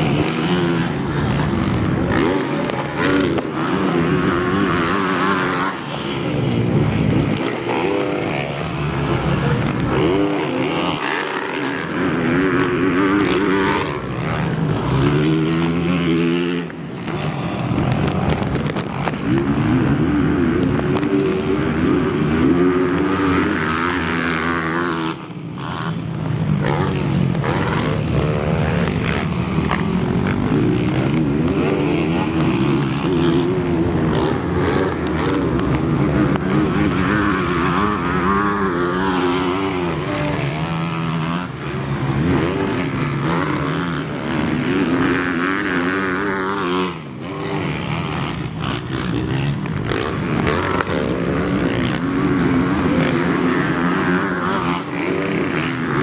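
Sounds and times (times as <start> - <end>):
motocross bike engines revving: 0.0 - 56.0.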